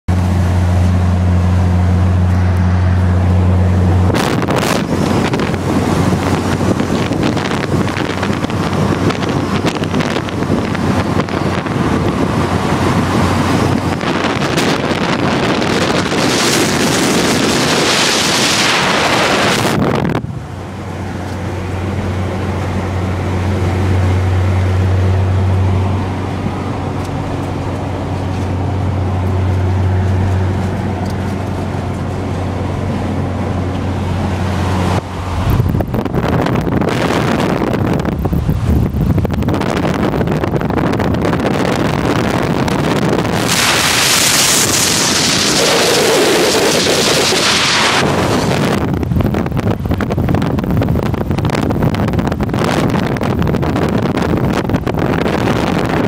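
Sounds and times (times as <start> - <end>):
car engine droning in cabin: 0.1 - 56.0
wind rush on microphone: 0.1 - 56.0.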